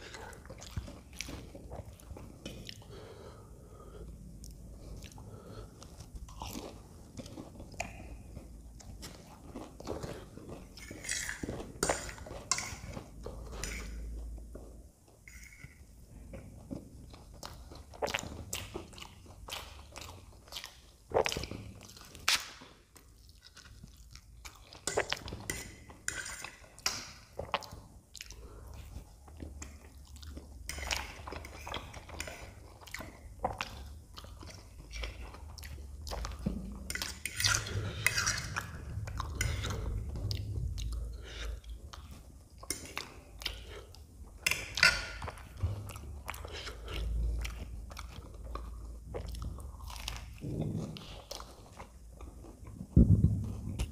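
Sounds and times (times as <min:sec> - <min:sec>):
close chewing of noodles: 0:00.0 - 0:14.7, 0:16.4 - 0:53.9.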